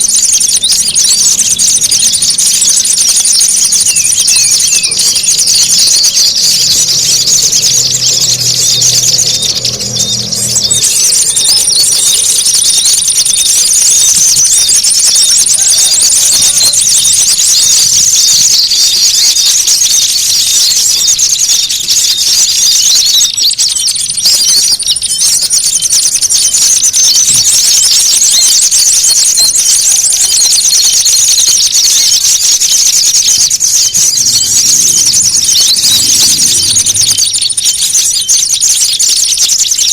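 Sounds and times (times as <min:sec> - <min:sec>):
songbirds chattering and twittering: 0:00.0 - 0:39.9.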